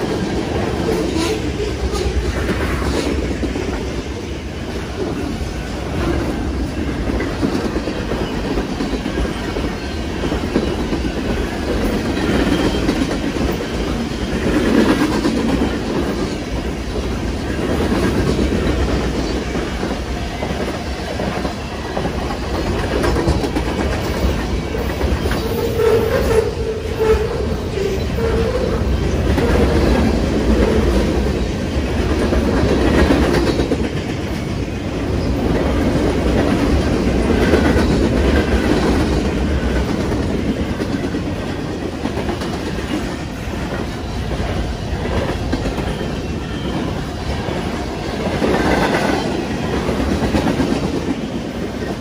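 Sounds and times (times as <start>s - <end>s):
train wheels clacking over rail joints: 0.0s - 52.0s.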